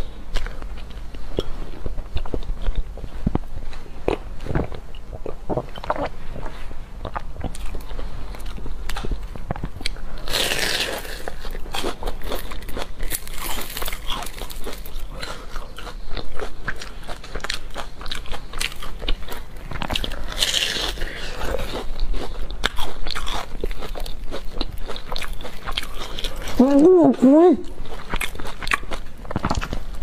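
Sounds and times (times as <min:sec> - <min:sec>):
chewing: 0:00.3 - 0:26.9, 0:27.6 - 0:30.0.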